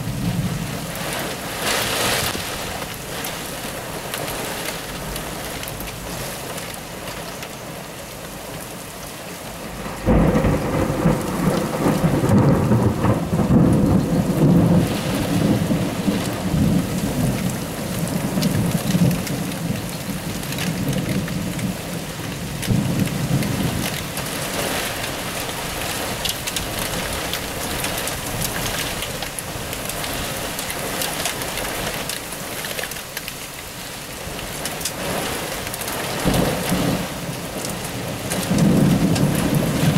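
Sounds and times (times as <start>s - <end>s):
thunder clap and rumble: 0.0s - 5.8s, 9.6s - 33.0s, 34.2s - 39.9s
heavy rain: 0.0s - 39.9s
raindrops pattering: 0.0s - 39.9s.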